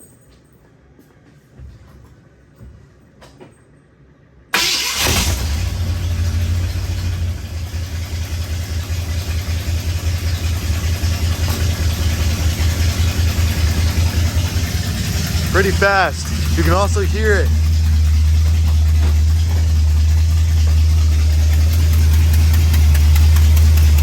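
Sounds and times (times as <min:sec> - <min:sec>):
pickup engine starting and idling: 0:04.5 - 0:24.0.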